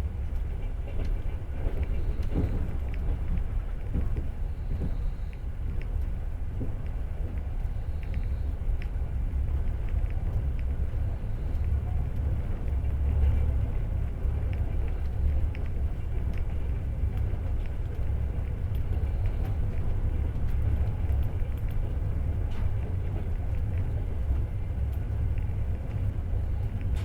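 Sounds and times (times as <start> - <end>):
faint rail clicks: 0.0 - 27.0
train carriage rumbling on rails: 0.0 - 27.0.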